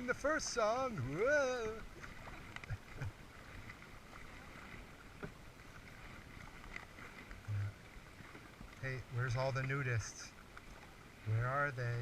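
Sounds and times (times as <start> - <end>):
paddle dipping in water: 0.0 - 12.0
water trickling off paddle blade: 0.0 - 12.0.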